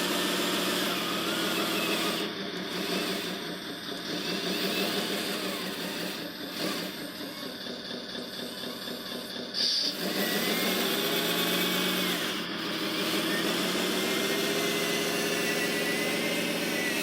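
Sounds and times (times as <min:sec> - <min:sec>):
toy vehicle motor humming: 0:00.0 - 0:17.0.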